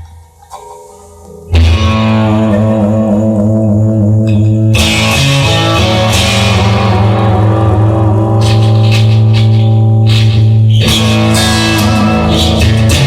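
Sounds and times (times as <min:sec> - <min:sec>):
rock song with guitar: 0:01.4 - 0:13.0.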